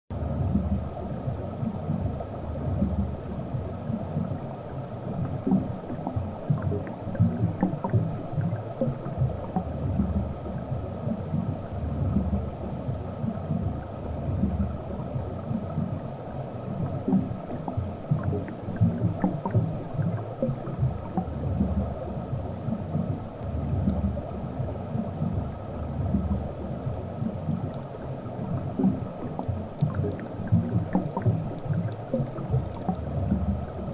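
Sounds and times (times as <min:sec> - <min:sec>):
muffled underwater water rumble: 0:00.1 - 0:33.9
faint clicks: 0:02.8 - 0:13.8, 0:16.7 - 0:25.5, 0:26.1 - 0:33.9.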